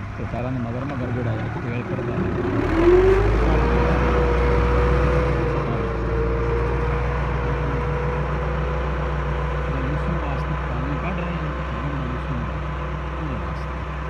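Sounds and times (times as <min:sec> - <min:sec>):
tractor engine running: 0:00.0 - 0:14.0
rising tone: 0:01.6 - 0:14.0.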